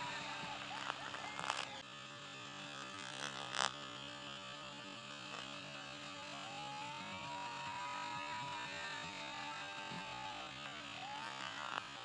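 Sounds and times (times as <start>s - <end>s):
radio-controlled helicopter droning: 0.0s - 12.0s.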